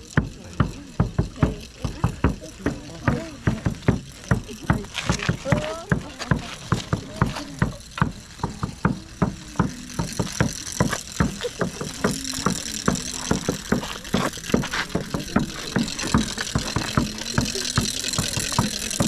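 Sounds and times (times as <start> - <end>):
rhythmic percussion beating: 0.0 - 19.0.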